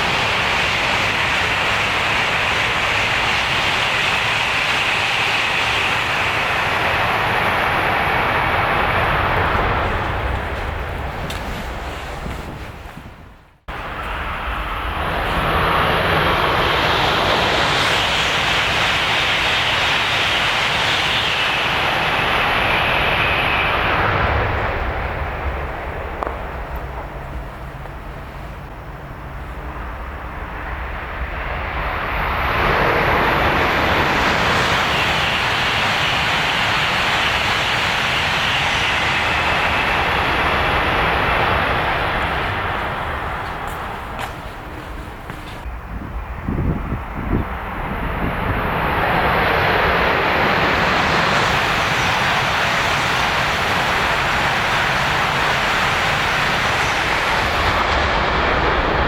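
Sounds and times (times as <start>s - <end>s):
high-speed train passing: 0.0s - 59.0s.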